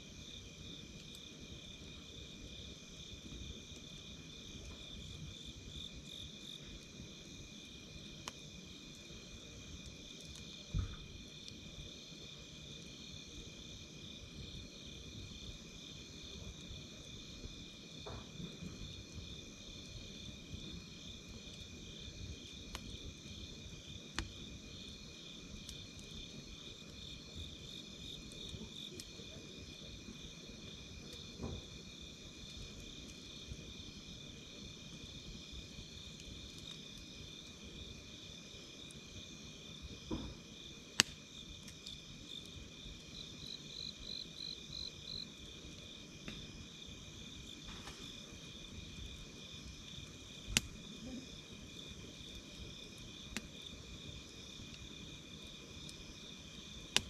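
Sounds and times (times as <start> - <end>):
campfire hiss: 0.0 - 57.0
insects chirping in trills: 0.0 - 57.0
burning wood crackling and popping: 0.1 - 57.0.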